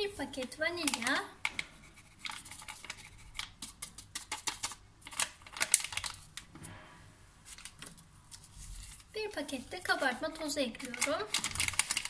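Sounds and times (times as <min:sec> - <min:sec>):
paper rustling: 0:00.8 - 0:06.5, 0:07.4 - 0:12.0
paper sachet crinkling: 0:00.8 - 0:06.5, 0:07.4 - 0:12.0.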